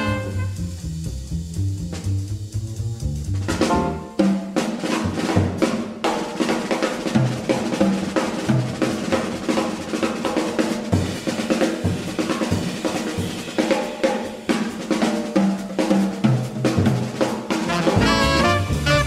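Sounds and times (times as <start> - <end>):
band instruments: 0.0 - 19.0
jazz drum kit: 0.0 - 19.0.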